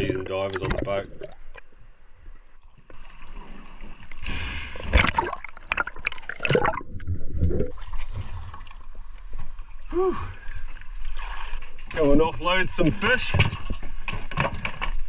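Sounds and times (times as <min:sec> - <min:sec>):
water splashing and gurgling: 0:00.0 - 0:12.2.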